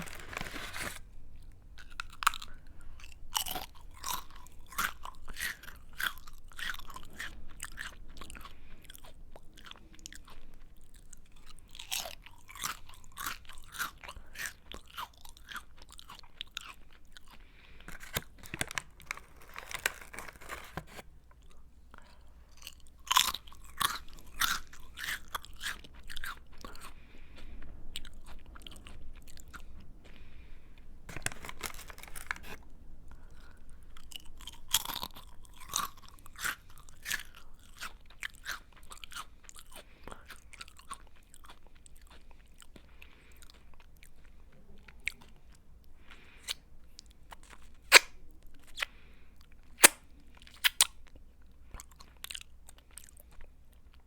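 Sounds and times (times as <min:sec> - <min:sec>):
crunchy snack chewing: 0:00.0 - 0:30.3, 0:31.1 - 0:44.4, 0:45.0 - 0:54.0.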